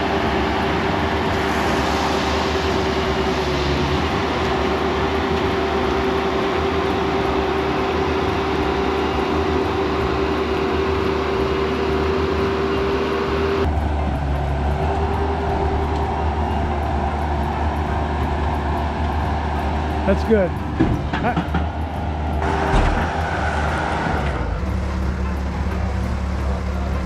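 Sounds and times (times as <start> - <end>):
diesel engine whining under load: 0.0 - 27.0.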